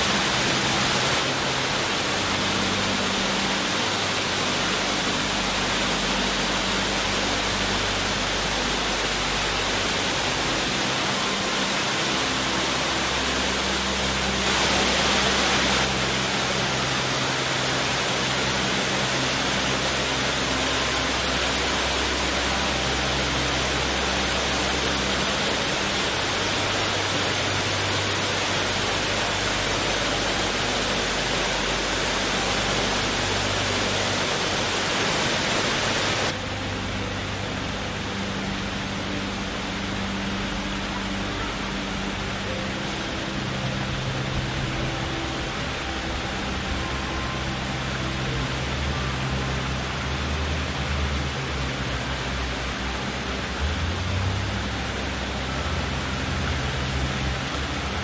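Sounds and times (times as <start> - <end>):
water fountain splashing: 0.0 - 58.0.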